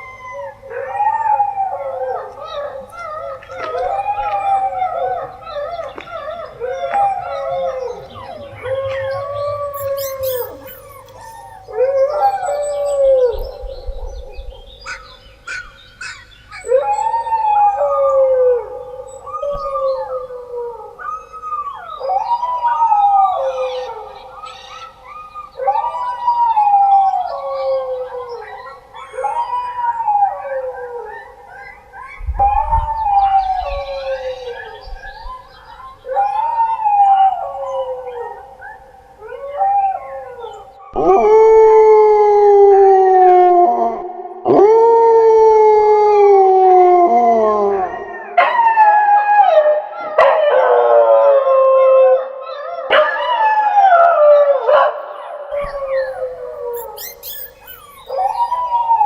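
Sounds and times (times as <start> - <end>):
dogs howling: 0.0 - 59.0.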